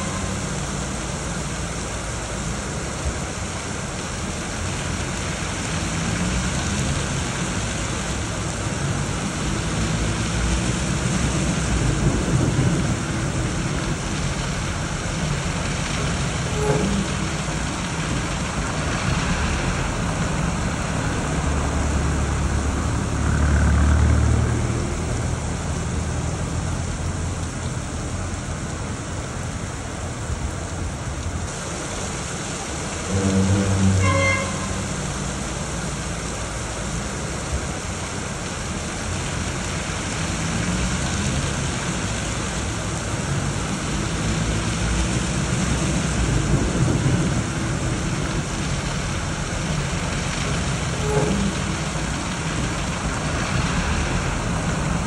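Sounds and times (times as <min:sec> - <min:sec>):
low rumbles: 0:00.0 - 0:37.0, 0:38.9 - 0:55.0
heavy rain hissing: 0:00.0 - 0:55.0.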